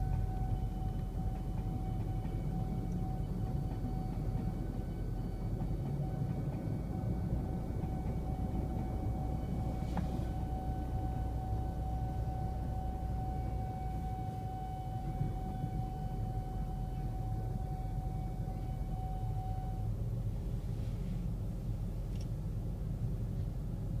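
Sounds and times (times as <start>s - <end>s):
level-crossing alarm tone: 0.0s - 20.0s
passing train: 0.0s - 20.6s
idling traffic rumble: 0.0s - 24.0s.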